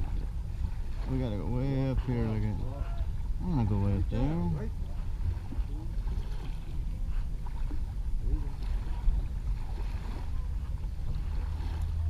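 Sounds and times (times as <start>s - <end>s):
water rumbling along a hull: 0.0s - 12.0s
wind on microphone: 0.0s - 12.0s.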